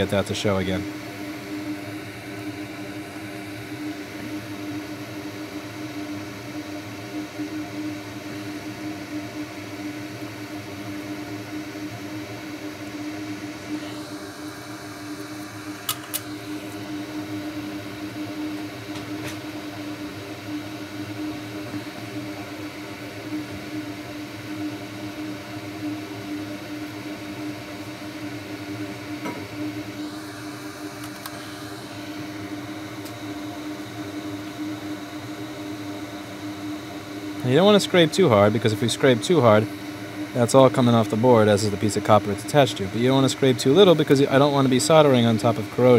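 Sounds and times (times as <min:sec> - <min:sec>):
fan droning: 0:00.0 - 0:45.9.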